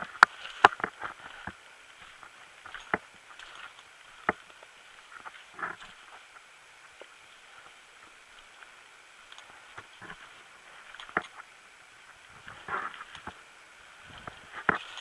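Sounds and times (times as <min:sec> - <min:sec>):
footsteps crunching on rough ground: 0:00.0 - 0:15.0.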